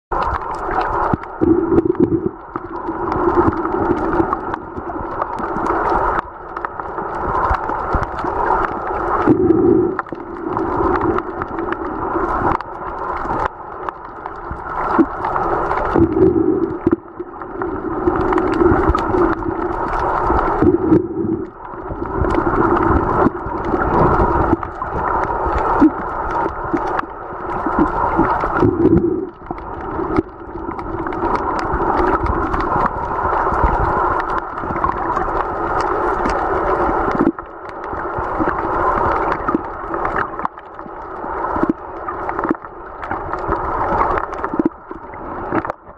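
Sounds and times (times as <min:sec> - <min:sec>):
muffled underwater water noise: 0:00.1 - 0:45.9.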